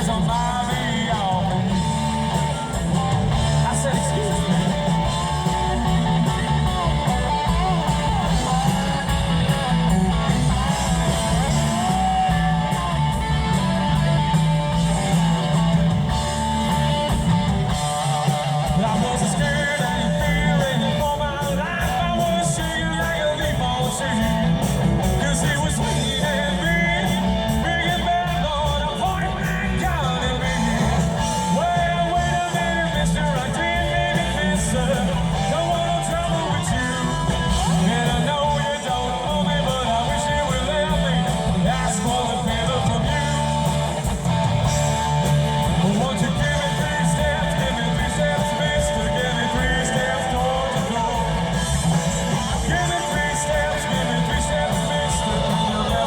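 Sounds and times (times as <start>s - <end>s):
electric guitar: 0.0s - 56.0s
heavy bass: 0.0s - 56.0s
live rock band through speakers: 0.0s - 56.0s
person singing: 0.0s - 56.0s.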